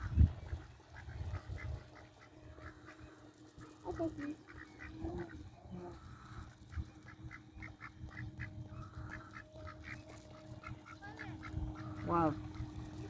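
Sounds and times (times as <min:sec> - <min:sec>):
low wind rumble: 0:00.0 - 0:04.2, 0:04.8 - 0:13.0
faint steady hum: 0:00.0 - 0:13.0
ducks calling: 0:00.3 - 0:13.0.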